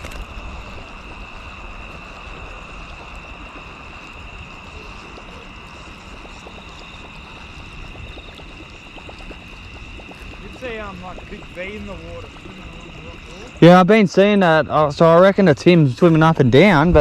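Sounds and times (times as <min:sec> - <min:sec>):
running water: 0:00.0 - 0:17.0
wind rumble: 0:00.0 - 0:17.0.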